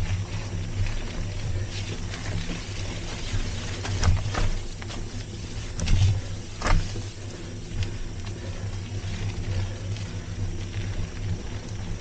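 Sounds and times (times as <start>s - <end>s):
bike knocking over bumps: 0.0s - 12.0s
bike tyres rumbling on dirt: 0.0s - 12.0s.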